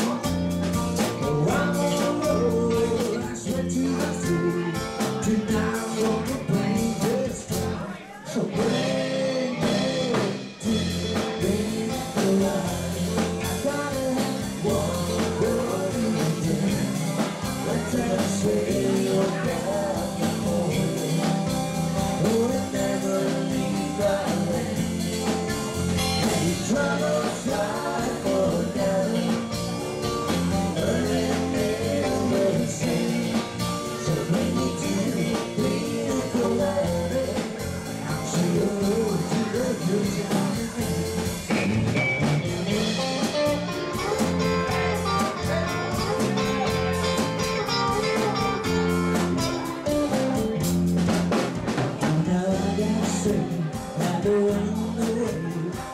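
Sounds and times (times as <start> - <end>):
person singing: 0.0 - 50.6, 51.6 - 55.9
guitar: 0.0 - 55.9
steady drum beat: 0.0 - 55.9.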